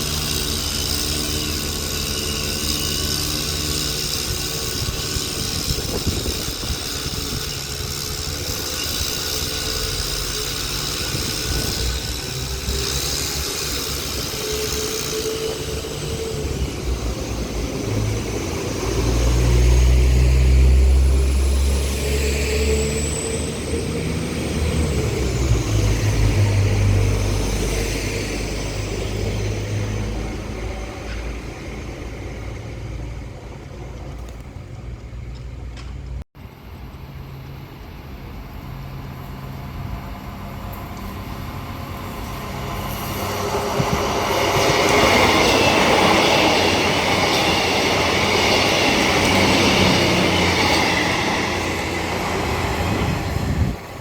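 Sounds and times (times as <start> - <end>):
train wheels squealing: 0.0 - 34.2, 37.1 - 54.0
train rumbling: 0.0 - 54.0.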